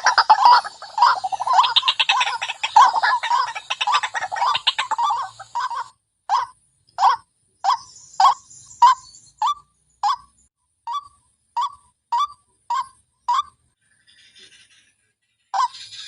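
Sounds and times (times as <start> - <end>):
waterhen harsh call notes: 0.0 - 10.2, 10.9 - 13.6.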